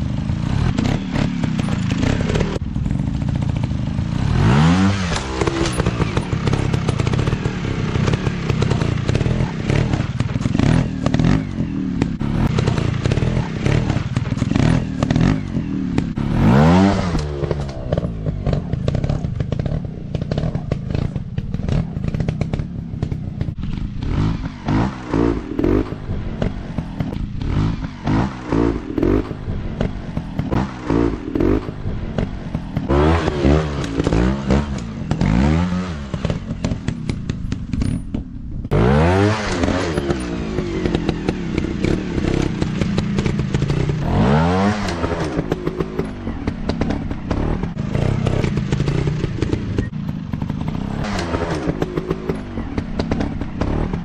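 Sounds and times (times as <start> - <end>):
clatter and scraping: 0.0 - 54.0
dirt bike engines revving: 0.0 - 54.0.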